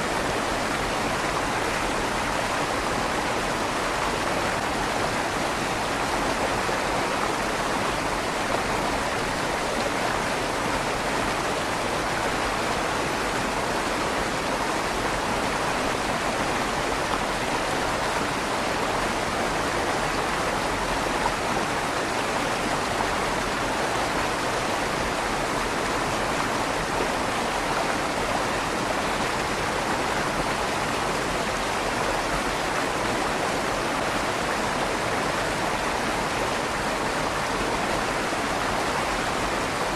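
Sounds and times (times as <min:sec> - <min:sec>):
river water rushing in tunnel: 0:00.0 - 0:39.9.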